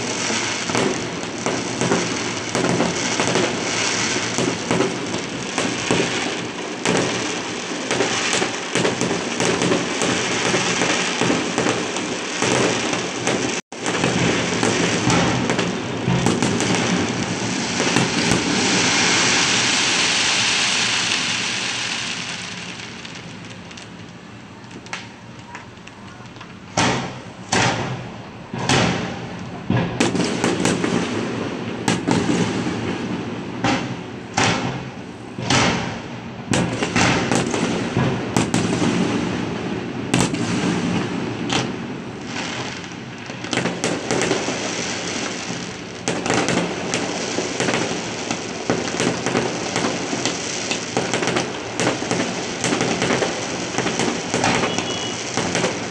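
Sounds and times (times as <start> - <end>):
fireworks bangs and crackling: 0.0 - 55.9.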